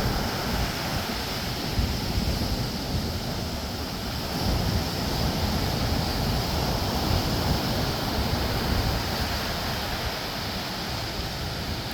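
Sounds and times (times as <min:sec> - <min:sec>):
waves washing onto beach: 0:00.0 - 0:11.9.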